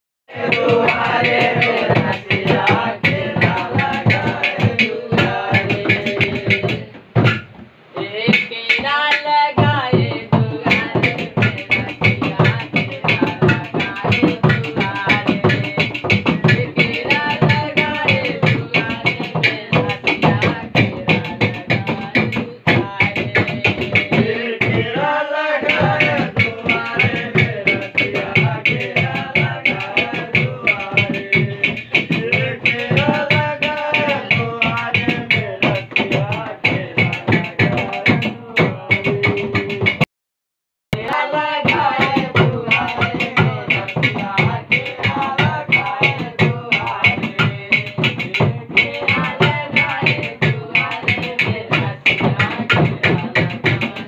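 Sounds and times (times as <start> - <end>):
men singing together: 0.3 - 7.4, 8.0 - 40.1, 41.0 - 54.0
hands drumming on plastic barrel: 0.3 - 8.5, 9.6 - 25.0, 25.6 - 40.1, 41.1 - 54.0.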